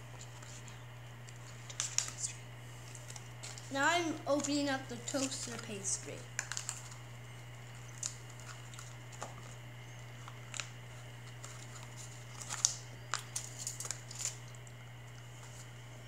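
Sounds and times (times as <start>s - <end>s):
steady low hum: 0.0s - 16.0s
food packets clicking and crinkling: 0.2s - 15.7s.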